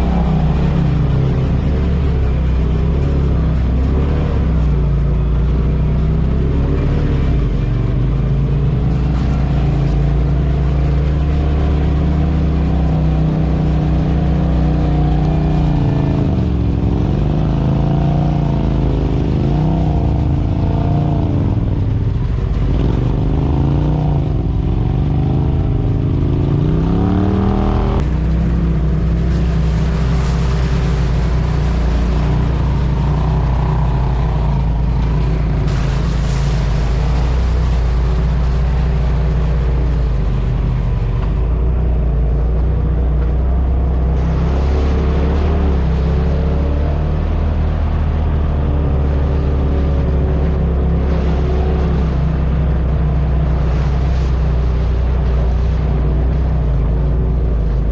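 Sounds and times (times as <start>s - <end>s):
vehicle engine revving: 0.0s - 57.9s.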